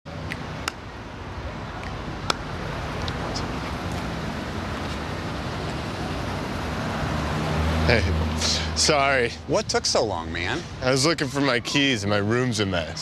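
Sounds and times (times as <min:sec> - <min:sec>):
low traffic rumble: 0:00.1 - 0:13.0.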